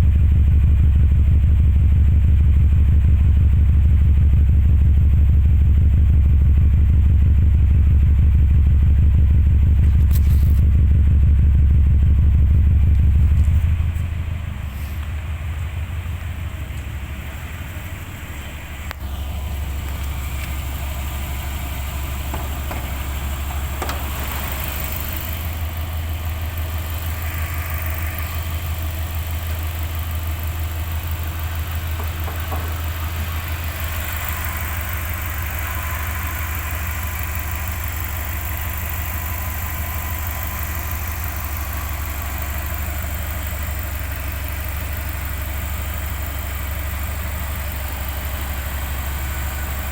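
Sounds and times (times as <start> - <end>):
boxer engine idling: 0.0 - 49.9
engine knock: 0.0 - 49.9.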